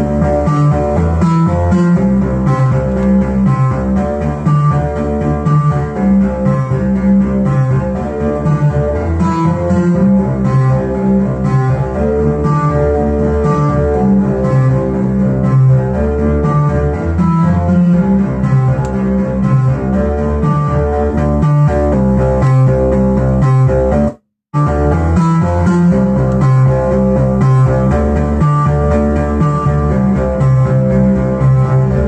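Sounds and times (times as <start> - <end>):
heavy synth bass line: 0.0 - 32.0.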